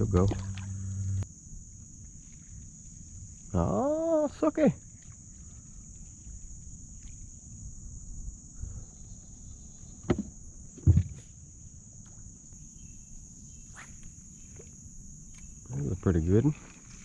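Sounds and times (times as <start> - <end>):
high-pitched insect chorus buzzing: 0.0 - 17.0.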